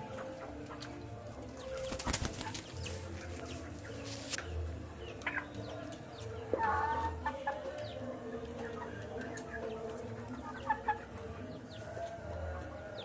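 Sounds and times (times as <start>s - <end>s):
chicks clucking and peeping: 0.0s - 13.0s.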